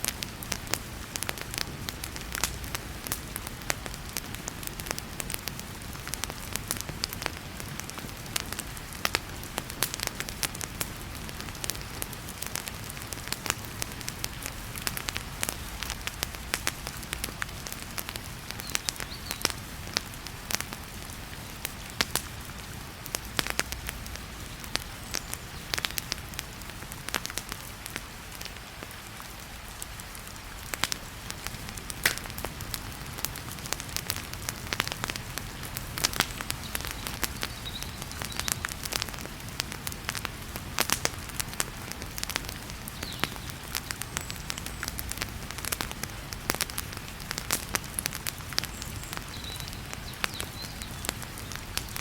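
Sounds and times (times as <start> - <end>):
heavy rain hissing: 0.0 - 52.0
wood fire crackling and popping: 0.0 - 52.0.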